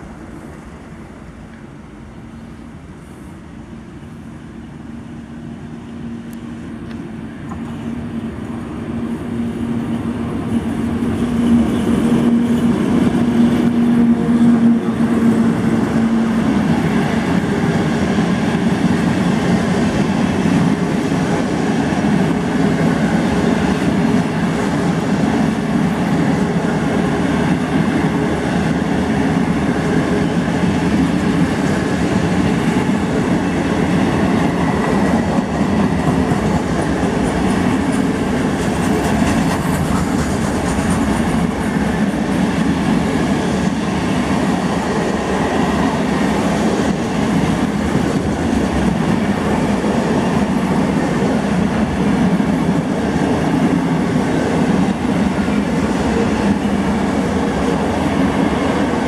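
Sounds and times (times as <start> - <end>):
freight train wheels rolling on rails: 0.0 - 59.0.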